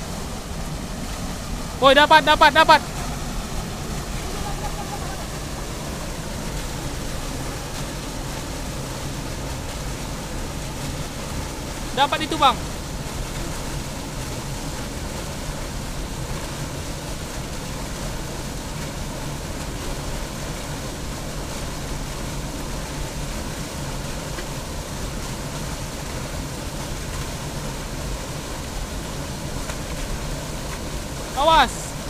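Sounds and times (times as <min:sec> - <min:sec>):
waterfall pouring over rocks: 0:00.0 - 0:32.0.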